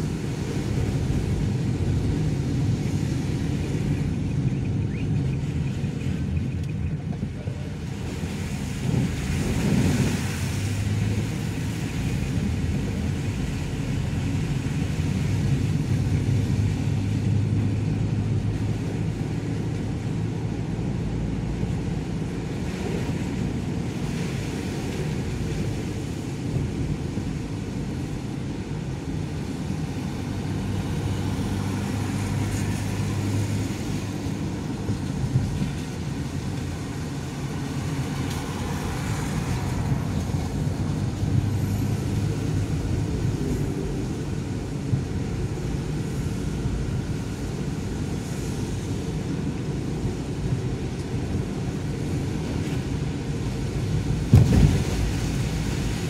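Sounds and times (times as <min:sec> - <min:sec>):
tyres hissing on wet road: 0:00.0 - 0:06.4, 0:07.0 - 0:56.0
car engine hum: 0:00.0 - 0:56.0.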